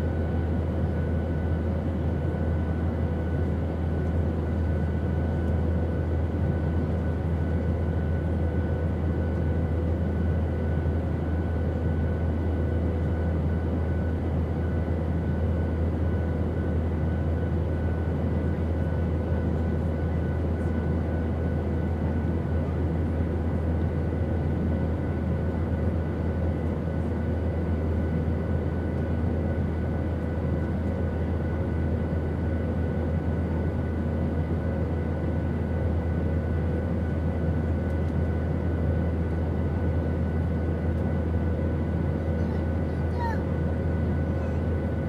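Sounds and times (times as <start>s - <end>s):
airplane drone: 0.0s - 45.0s.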